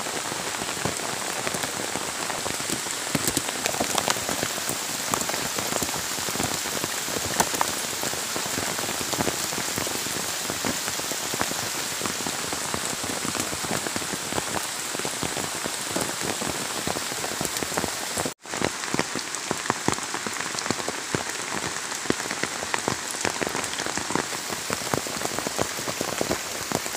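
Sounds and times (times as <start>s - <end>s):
heavy rain on foliage: 0.0s - 26.9s
crisp water drips: 0.8s - 26.9s.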